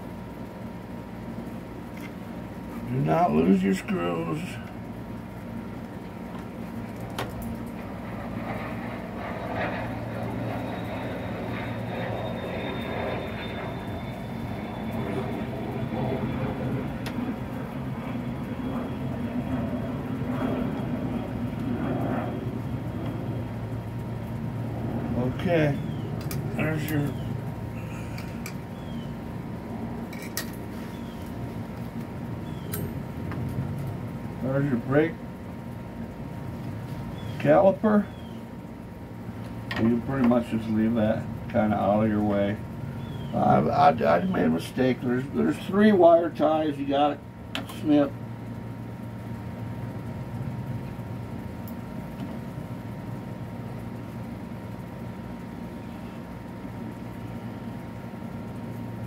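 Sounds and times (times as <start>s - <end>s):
low background hum: 0.0s - 59.0s
low engine drone: 0.0s - 59.0s.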